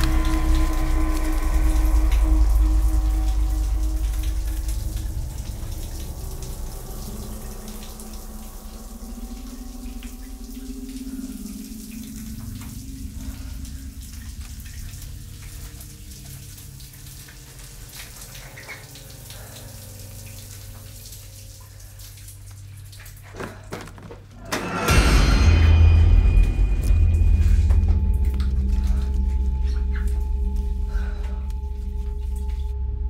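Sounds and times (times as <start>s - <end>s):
shower water spattering on tiles: 0.0s - 32.7s
low steady hum: 0.0s - 33.0s.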